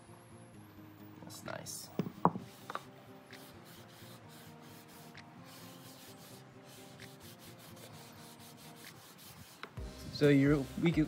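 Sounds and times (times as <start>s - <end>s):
cloth scrubbing on wood: 1.2s - 10.2s.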